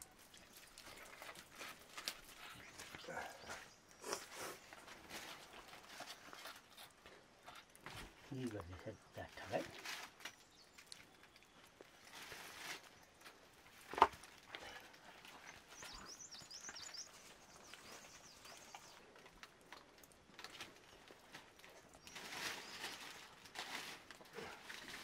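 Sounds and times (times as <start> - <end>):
rustling: 0.0 - 25.0.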